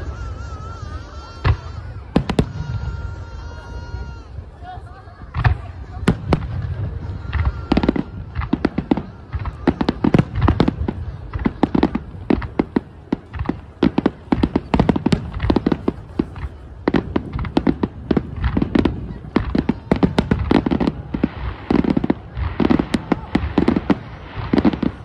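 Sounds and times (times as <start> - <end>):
firework bangs and crackles: 0.0 - 25.0.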